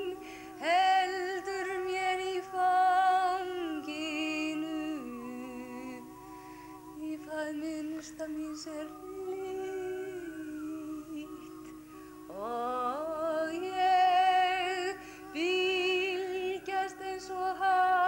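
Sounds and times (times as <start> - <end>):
women singing wordless notes: 0.0 - 18.0.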